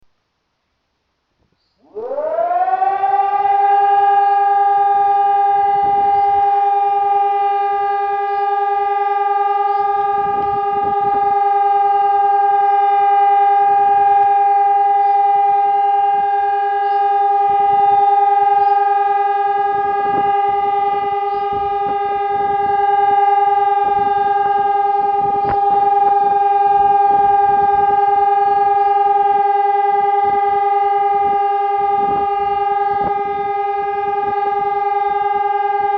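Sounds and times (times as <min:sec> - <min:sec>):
electronic siren steady tone: 0:01.8 - 0:35.9.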